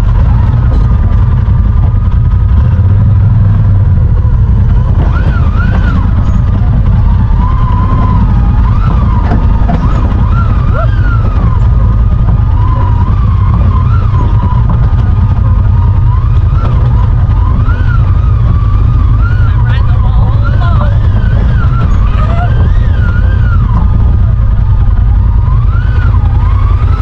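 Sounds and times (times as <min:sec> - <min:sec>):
utility vehicle engine rumble: 0:00.0 - 0:27.0
whine rising and falling in pitch: 0:00.0 - 0:27.0.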